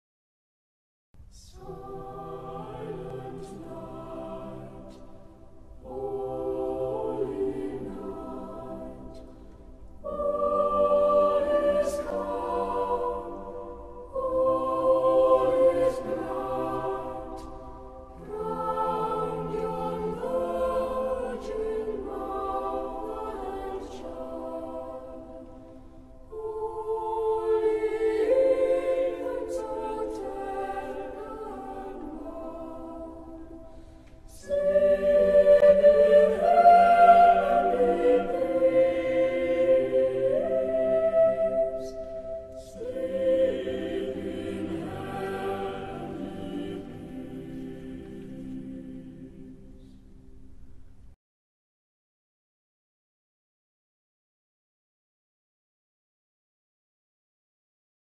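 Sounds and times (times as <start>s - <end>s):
group singing a carol: 1.3s - 50.1s.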